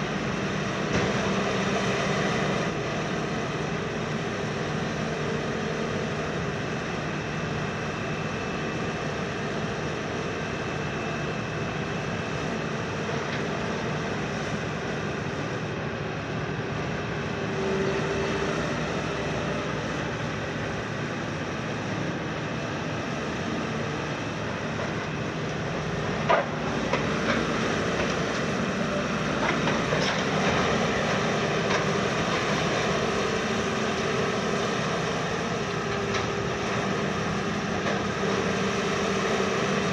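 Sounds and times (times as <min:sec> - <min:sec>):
excavator engine and hydraulics droning: 0:00.0 - 0:39.9.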